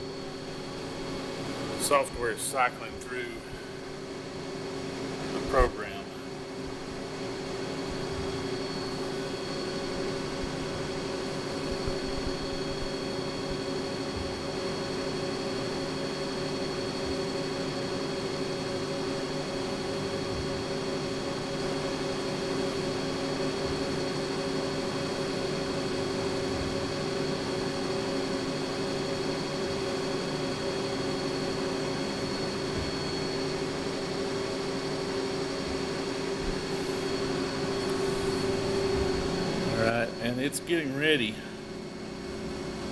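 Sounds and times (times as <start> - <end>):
milling machine humming: 0.0 - 42.9.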